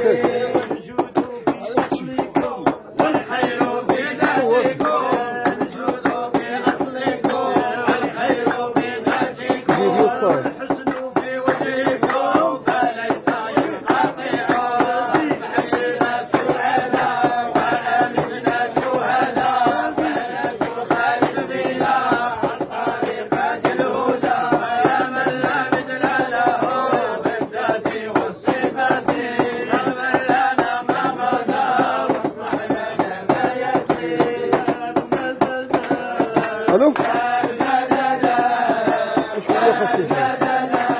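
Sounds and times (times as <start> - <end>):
men chanting praise songs: 0.0 - 40.9
steady rhythmic beat: 0.0 - 40.9.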